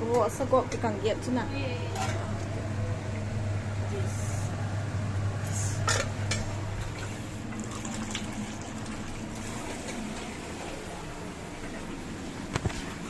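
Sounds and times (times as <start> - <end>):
liquid sounds: 0.6 - 13.0.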